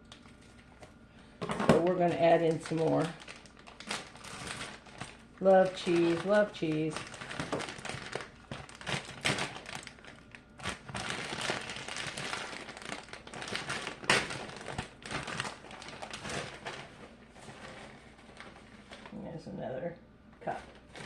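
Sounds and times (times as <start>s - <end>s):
plastic bag crinkling: 0.0s - 19.2s, 20.5s - 21.0s.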